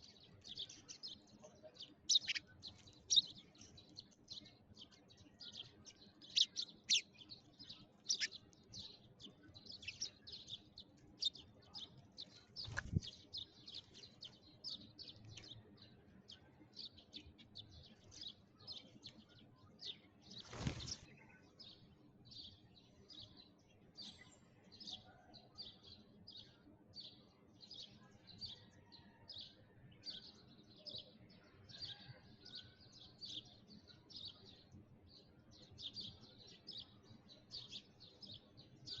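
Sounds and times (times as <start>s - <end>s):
sparrows chirping: 0.0s - 39.0s.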